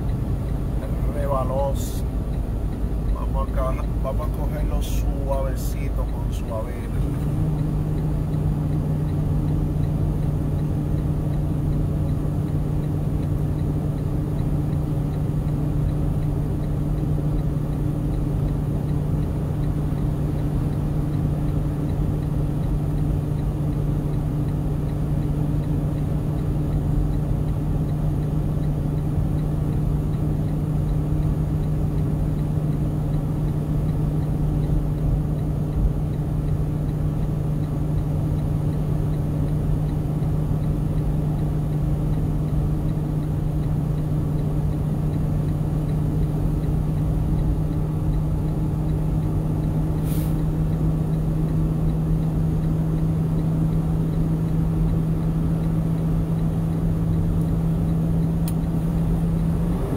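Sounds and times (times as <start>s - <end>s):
tyre road noise: 0.0s - 59.9s
vehicle engine hum: 0.0s - 59.9s.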